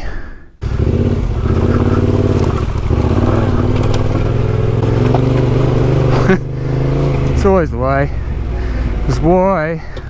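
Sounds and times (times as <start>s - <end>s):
motorcycle engine running: 0.6s - 10.0s.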